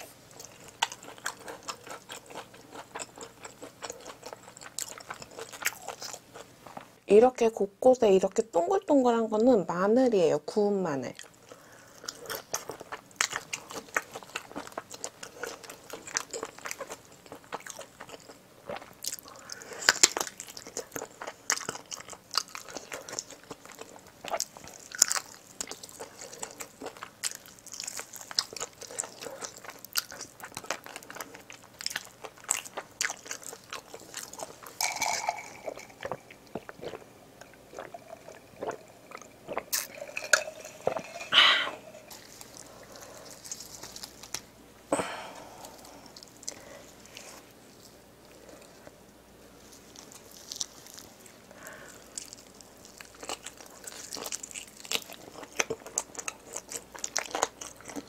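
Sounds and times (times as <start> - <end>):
chewing with mouth clicks and crunches: 0.0 - 7.0, 11.1 - 44.5, 45.6 - 58.0.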